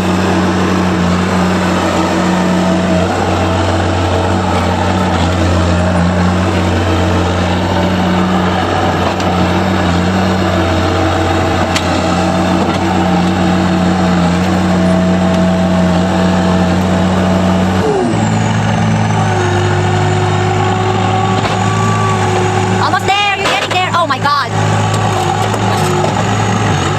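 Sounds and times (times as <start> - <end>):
heavy vehicle engine running: 0.0 - 26.9.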